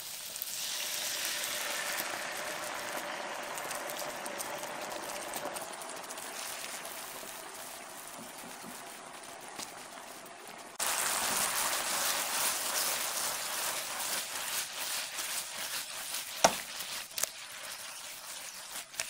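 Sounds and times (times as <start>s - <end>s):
sauce simmering in frying pan: 0.0s - 19.0s.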